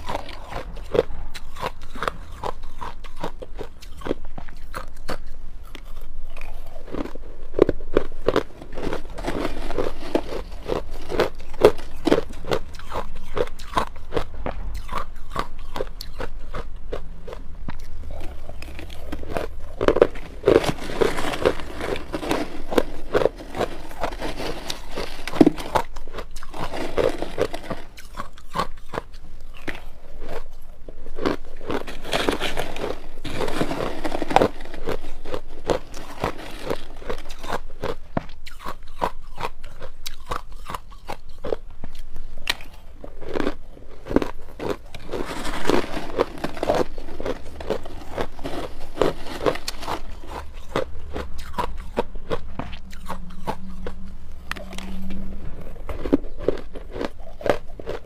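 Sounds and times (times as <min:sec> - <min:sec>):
crushed ice being chewed: 0:00.0 - 0:58.0.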